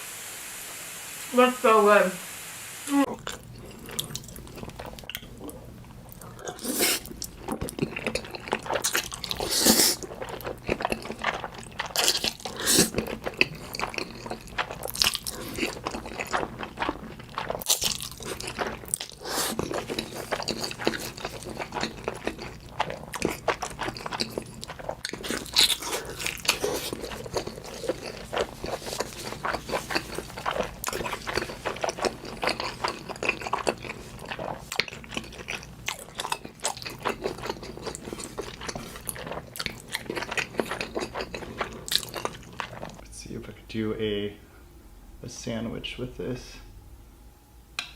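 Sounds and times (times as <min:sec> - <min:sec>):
crunching and chewing food: 0:03.1 - 0:43.1.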